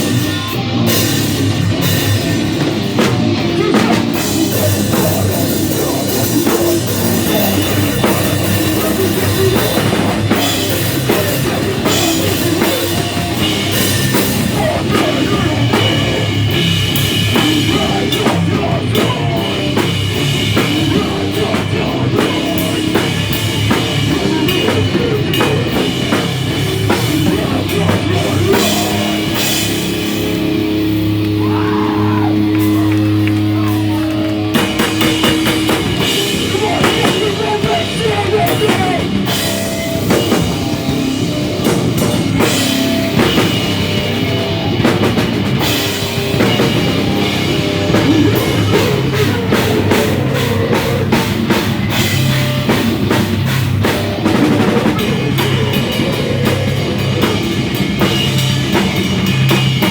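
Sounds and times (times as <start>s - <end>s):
heavy rock band playing: 0.0s - 59.9s
pounding drum kit: 0.0s - 59.9s.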